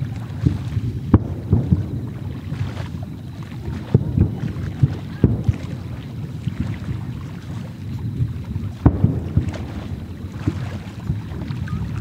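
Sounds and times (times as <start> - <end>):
fireworks booming: 0.0 - 12.0
steady rumble: 0.0 - 12.0.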